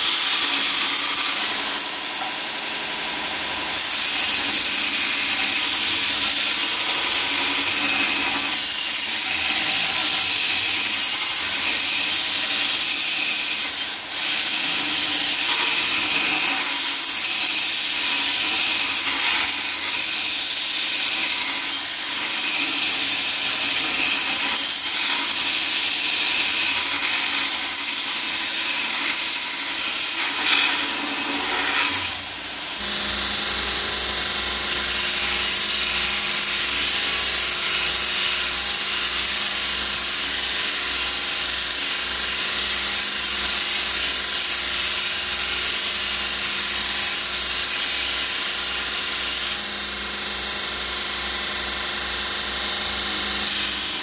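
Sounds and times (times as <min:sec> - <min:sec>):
belt grinder grinding steel: 0:00.0 - 0:54.0.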